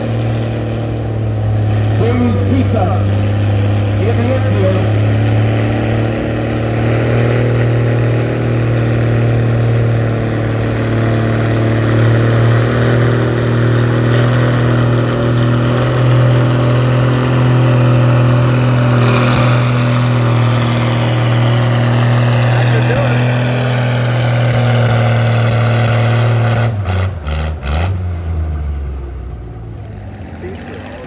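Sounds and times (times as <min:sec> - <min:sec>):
tractor engine under heavy load: 0:00.0 - 0:31.0.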